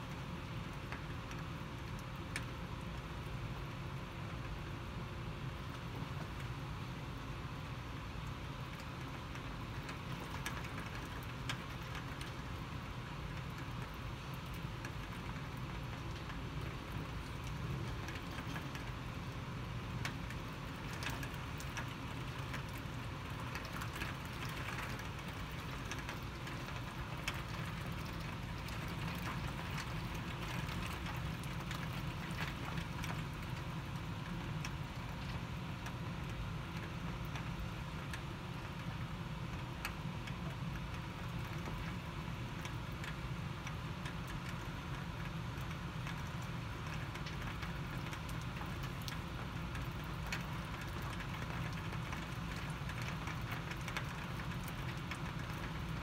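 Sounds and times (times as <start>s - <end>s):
raindrops ticking close by: 0.0s - 56.0s.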